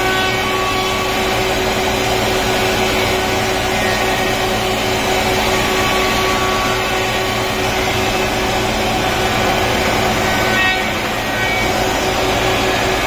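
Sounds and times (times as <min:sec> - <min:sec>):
wood planer machine running: 0:00.0 - 0:13.0.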